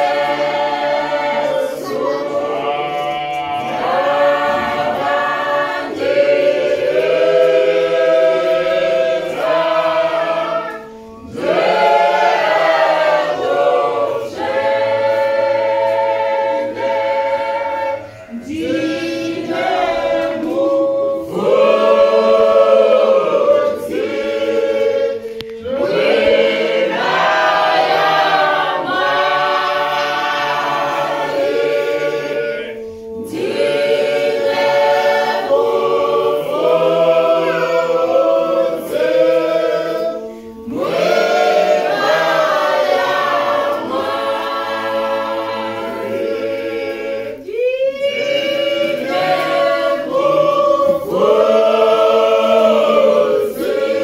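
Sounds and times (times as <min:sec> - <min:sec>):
mixed choir singing a cappella: 0:00.0 - 0:54.0.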